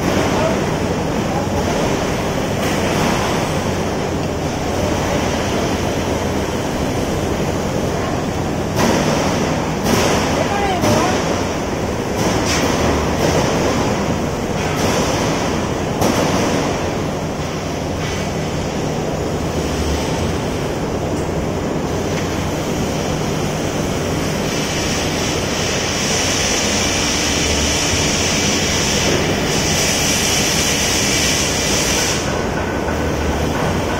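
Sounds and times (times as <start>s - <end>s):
construction site machinery noise: 0.0s - 33.9s.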